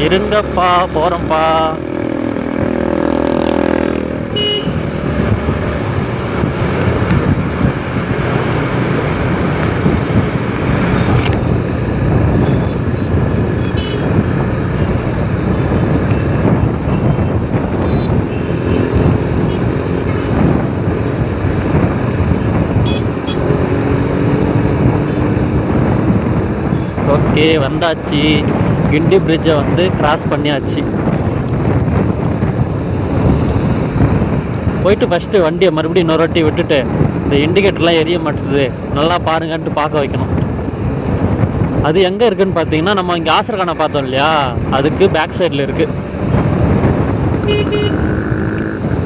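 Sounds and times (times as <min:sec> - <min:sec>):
motorcycle engine at speed: 0:00.0 - 0:35.1, 0:36.1 - 0:39.0, 0:45.9 - 0:49.0
traffic: 0:00.0 - 0:49.0
wind and road noise: 0:00.0 - 0:49.0.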